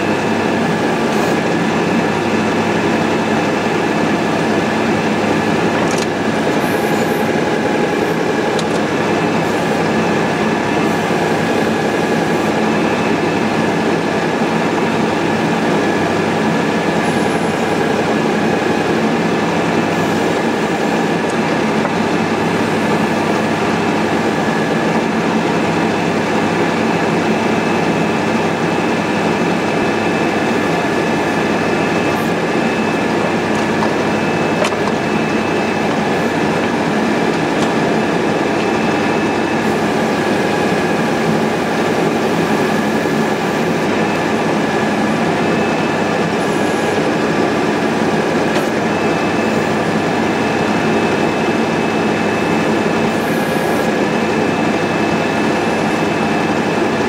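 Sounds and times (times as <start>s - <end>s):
high hydraulic whine: 0.0s - 57.0s
tractor diesel engine running: 0.0s - 57.0s.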